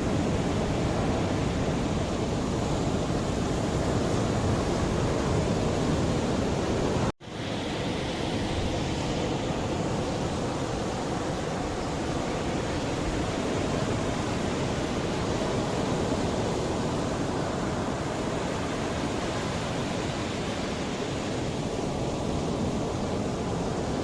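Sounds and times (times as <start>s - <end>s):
sea waves washing in: 0.0s - 24.0s.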